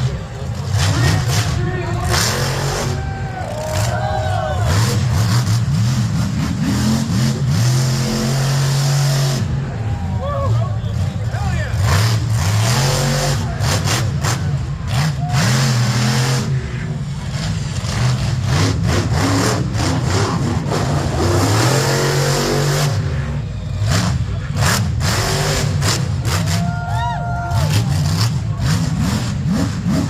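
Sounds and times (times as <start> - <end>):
truck engine revving: 0.0 - 26.8, 27.5 - 30.0.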